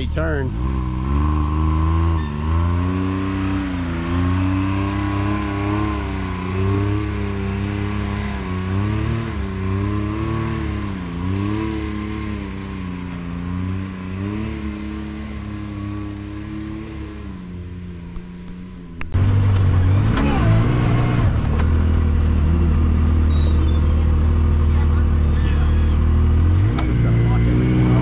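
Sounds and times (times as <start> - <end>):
engine revving on a climb: 0.0 - 28.0.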